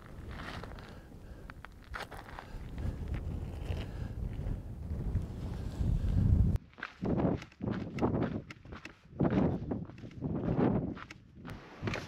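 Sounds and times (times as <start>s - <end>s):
footsteps on stony path: 0.0s - 12.0s
wind rumble on microphone: 0.0s - 12.0s.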